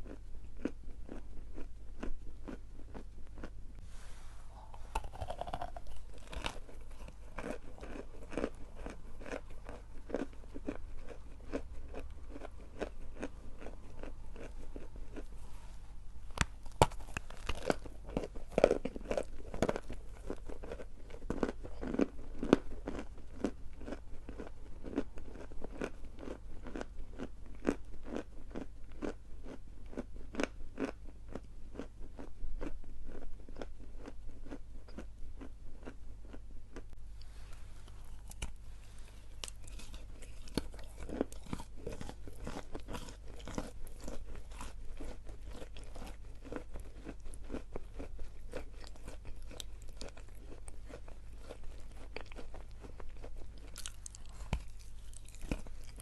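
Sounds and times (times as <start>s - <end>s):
crunching and chewing chalk: 0.0s - 56.0s.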